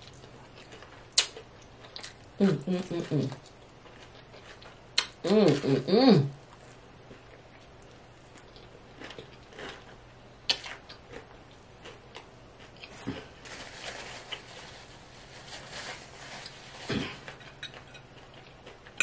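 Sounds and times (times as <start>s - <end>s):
crunching and chewing: 0.0s - 19.0s.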